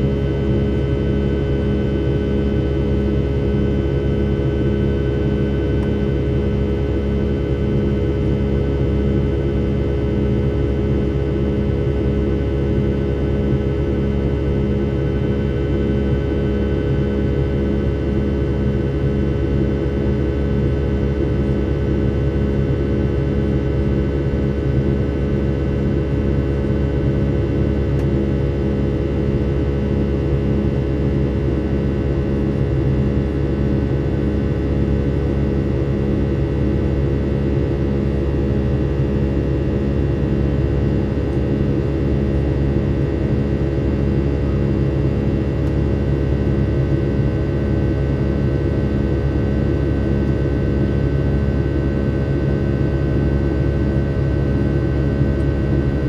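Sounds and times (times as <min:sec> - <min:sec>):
jet engine buzz: 0:00.0 - 0:56.0.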